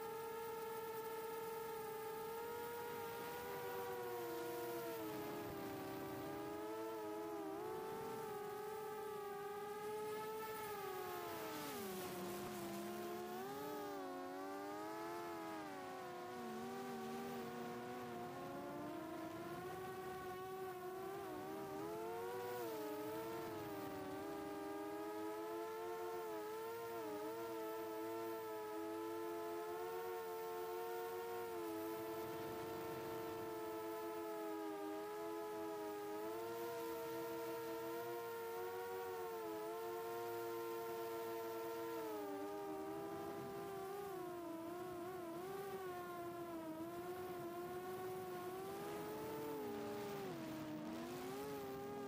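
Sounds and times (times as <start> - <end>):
drone motors whining: 0.0 - 52.0.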